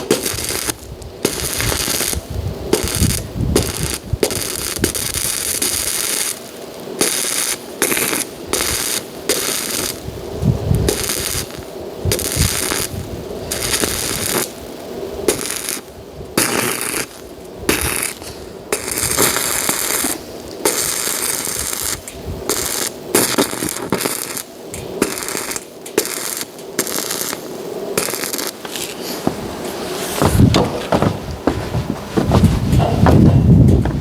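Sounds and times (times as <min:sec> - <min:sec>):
arc welding crackling sizzle: 0:00.0 - 0:32.8.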